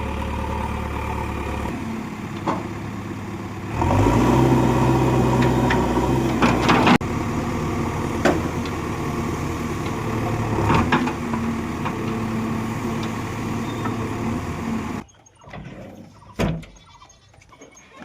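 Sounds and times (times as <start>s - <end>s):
tractor engine revving: 0.0s - 15.1s.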